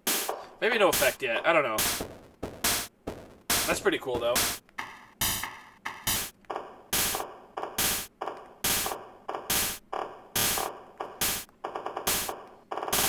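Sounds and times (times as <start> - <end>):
drum machine beat: 0.0 - 13.0.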